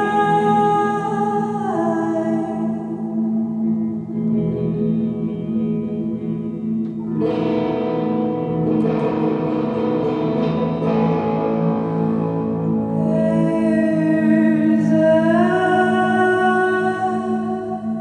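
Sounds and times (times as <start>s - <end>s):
electric guitar chords: 0.0s - 18.0s.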